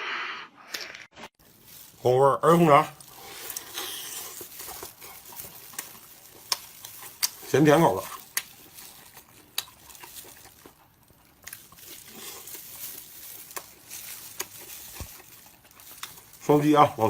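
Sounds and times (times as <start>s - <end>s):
person chewing food: 2.8s - 16.5s.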